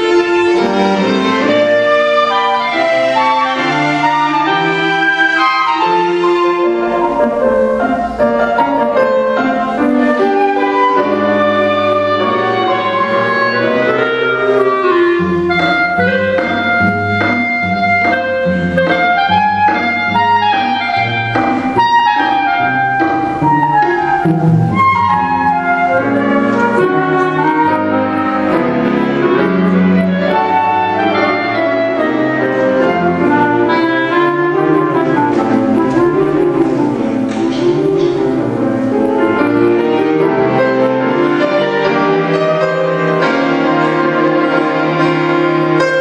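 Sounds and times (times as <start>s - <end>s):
flute: 0.0s - 37.0s
cello: 0.0s - 46.0s.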